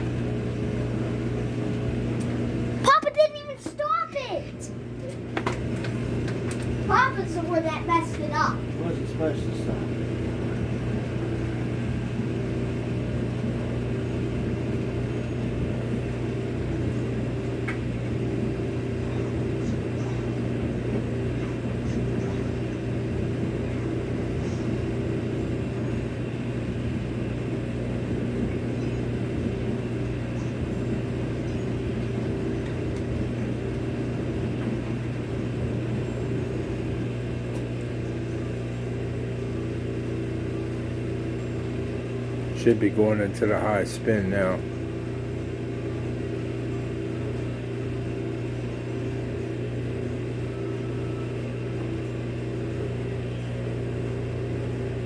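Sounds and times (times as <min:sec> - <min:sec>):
washing machine spin cycle hum: 0:00.0 - 0:55.0.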